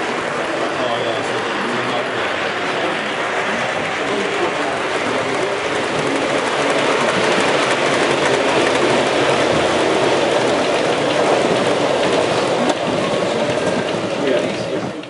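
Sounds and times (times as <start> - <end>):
model train wheels rattling: 1.2 - 15.0.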